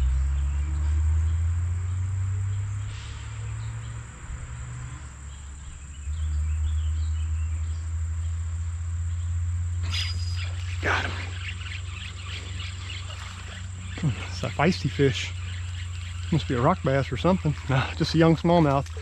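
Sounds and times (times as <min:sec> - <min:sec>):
insects trilling: 0:02.4 - 0:19.0.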